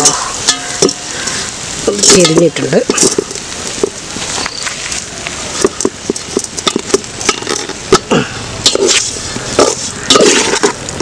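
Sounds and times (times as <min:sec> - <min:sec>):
pot sizzling: 0:00.0 - 0:11.0.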